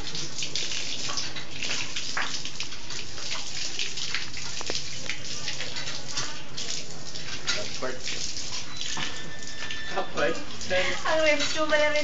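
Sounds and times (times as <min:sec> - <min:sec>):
water pouring and splashing: 0:00.0 - 0:12.0.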